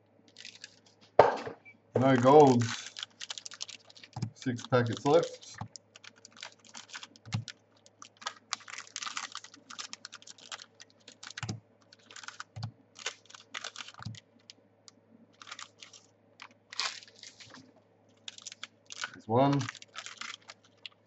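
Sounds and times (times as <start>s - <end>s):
cards clicking and rustling: 2.0s - 14.5s, 15.4s - 21.0s.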